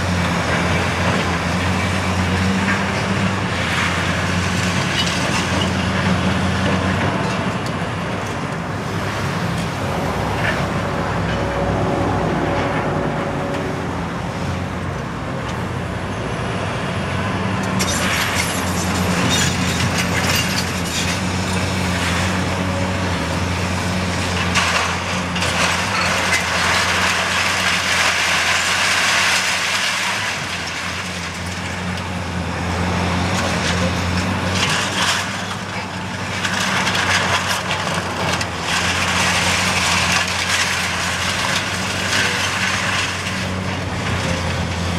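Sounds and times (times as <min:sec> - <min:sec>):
excavator diesel engine: 0:00.0 - 0:44.9.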